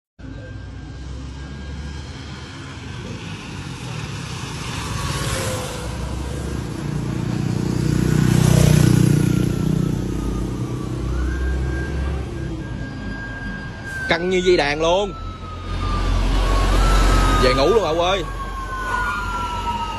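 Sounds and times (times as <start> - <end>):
engine and tyre rumble: 0.2 - 19.9
road traffic passing: 0.2 - 19.9.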